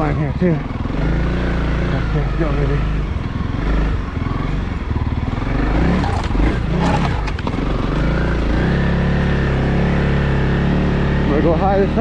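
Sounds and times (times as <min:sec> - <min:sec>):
motorcycle engine under throttle: 0:00.0 - 0:12.0.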